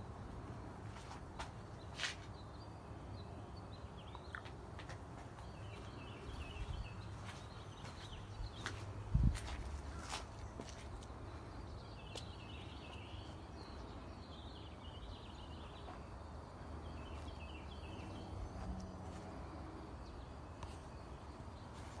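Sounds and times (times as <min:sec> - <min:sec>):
birds chirping: 0:01.0 - 0:22.0.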